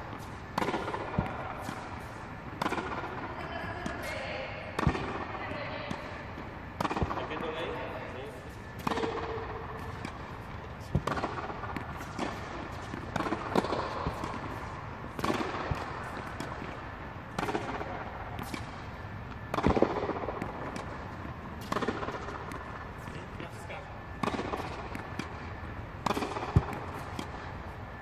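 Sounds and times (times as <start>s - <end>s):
tennis balls bouncing on court: 0.0s - 28.0s
tennis balls struck by rackets: 0.0s - 28.0s.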